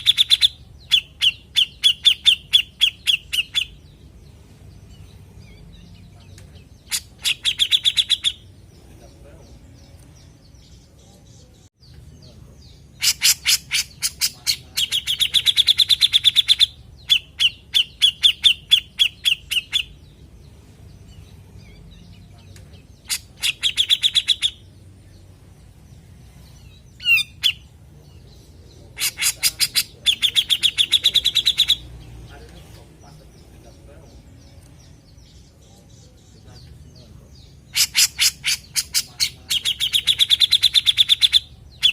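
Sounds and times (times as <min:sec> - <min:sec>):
bulbul calling sharp notes: 0:00.0 - 0:09.1, 0:12.8 - 0:25.4, 0:26.3 - 0:35.6, 0:37.3 - 0:41.9.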